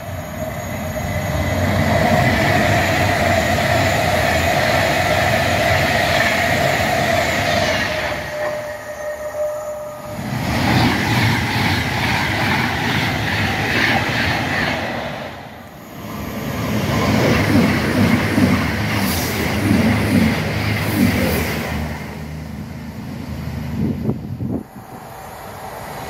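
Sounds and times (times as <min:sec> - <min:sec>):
trains passing at speed: 0:00.0 - 0:26.0.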